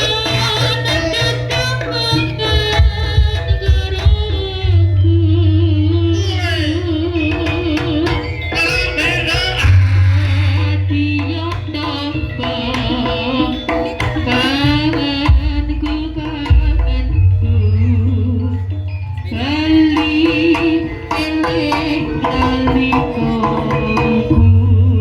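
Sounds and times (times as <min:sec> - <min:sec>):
hand drums beating: 0:00.0 - 0:25.0
ornamented melody line: 0:00.0 - 0:25.0.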